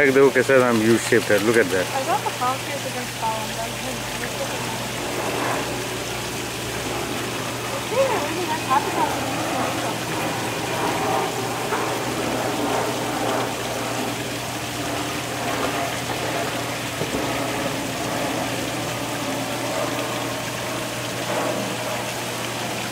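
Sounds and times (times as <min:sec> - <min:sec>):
low steady hum: 0:00.0 - 0:22.9
running water rushing: 0:00.0 - 0:22.9.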